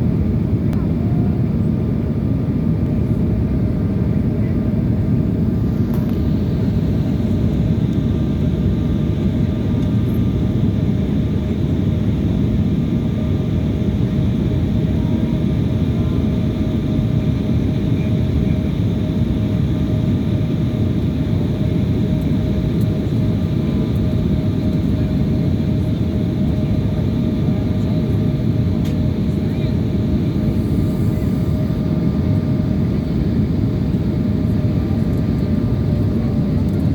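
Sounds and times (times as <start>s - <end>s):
aircraft cabin roar: 0.0s - 36.9s
constant hum: 0.0s - 36.9s.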